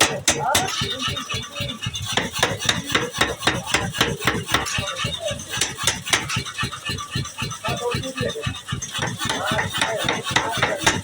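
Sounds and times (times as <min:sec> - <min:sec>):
power hammer blows on metal: 0:00.0 - 0:07.8, 0:08.6 - 0:11.0.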